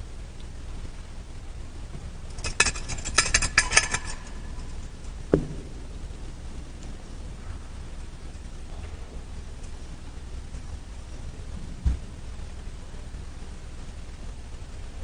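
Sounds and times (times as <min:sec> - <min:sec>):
low room hiss: 0:00.0 - 0:15.0.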